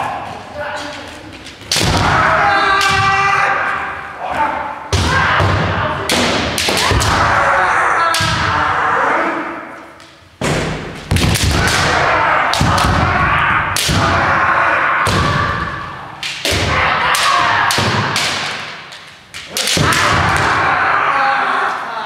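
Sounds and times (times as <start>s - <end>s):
people shouting: 1.7s - 9.8s, 11.3s - 18.8s, 19.4s - 22.0s.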